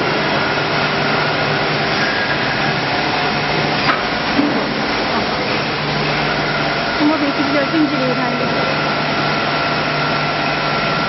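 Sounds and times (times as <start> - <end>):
loud steady machine noise: 0.0 - 11.0.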